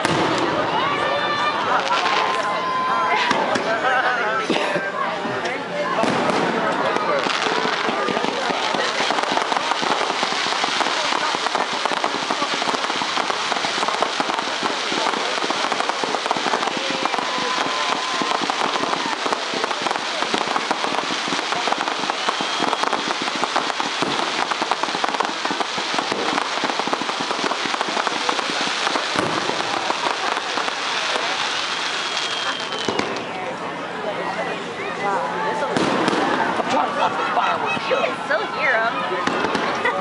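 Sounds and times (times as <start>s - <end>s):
fireworks crackling: 0.0s - 2.6s, 5.9s - 33.5s, 35.7s - 38.4s, 39.2s - 40.0s.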